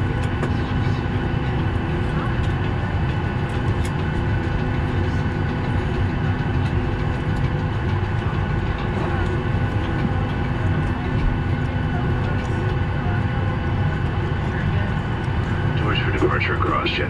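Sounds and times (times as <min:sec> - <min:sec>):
airliner cabin air rush: 0:00.0 - 0:17.0.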